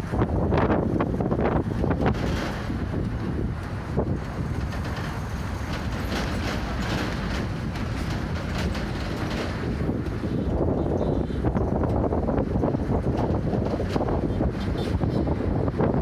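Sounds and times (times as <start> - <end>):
bus body rattling: 0.0 - 16.0
bus road rumble: 0.0 - 16.0.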